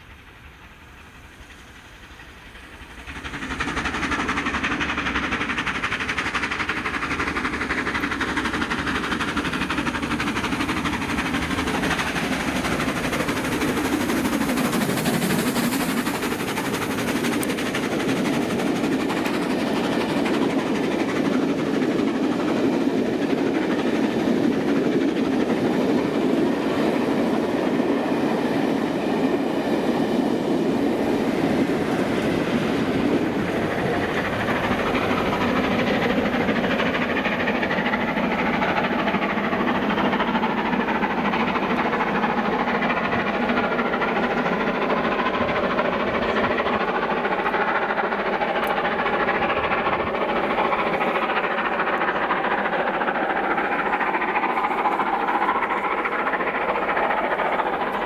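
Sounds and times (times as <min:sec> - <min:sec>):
diesel locomotive engine: 0:00.0 - 0:58.0
train wheels clacking on rails: 0:00.0 - 0:58.0.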